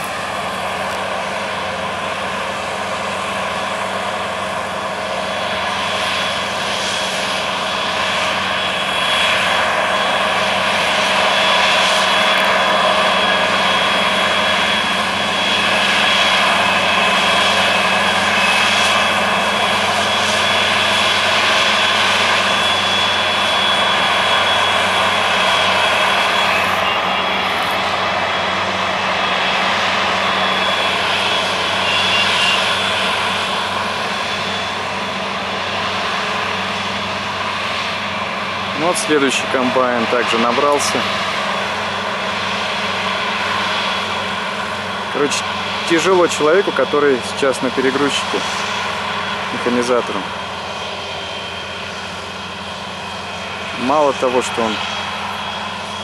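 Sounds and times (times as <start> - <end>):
farm machinery engine drone: 0.0 - 56.0.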